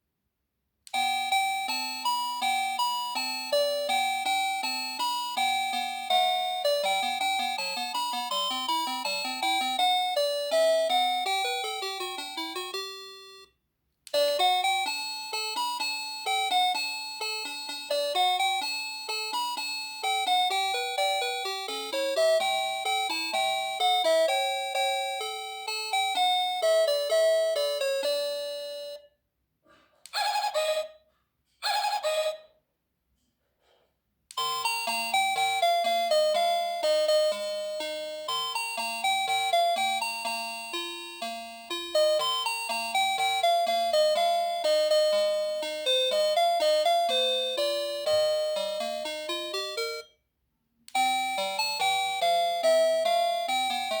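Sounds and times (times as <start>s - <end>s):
electronic doorbell chime melody: 0.9s - 13.5s, 14.1s - 29.1s, 34.4s - 50.2s, 50.9s - 54.0s.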